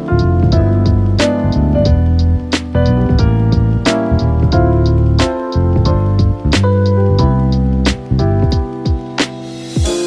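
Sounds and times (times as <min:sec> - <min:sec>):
background music with drum beat and bass: 0:00.0 - 0:10.0.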